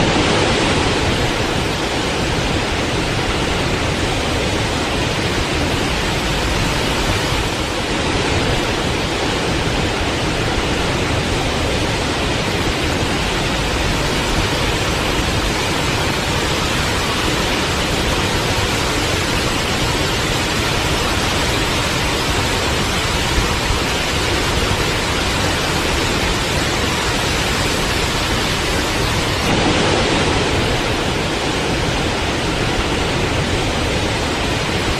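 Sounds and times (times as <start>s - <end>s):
waterfall pouring and splashing: 0.0s - 34.9s.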